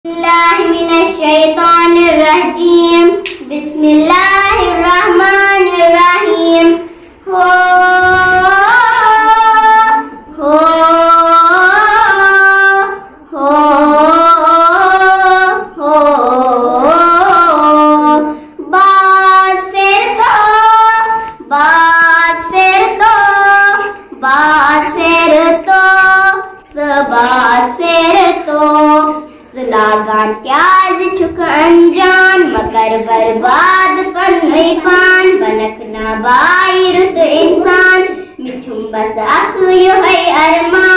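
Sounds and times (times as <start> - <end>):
girl singing unaccompanied: 0.1 - 40.9.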